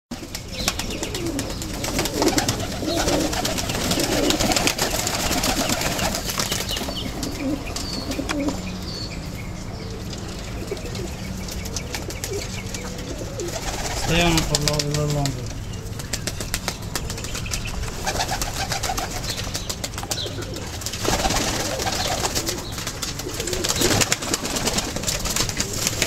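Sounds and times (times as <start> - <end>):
pigeon wings flapping: 0.1 - 8.6, 10.6 - 26.0
pigeons cooing: 0.2 - 26.0.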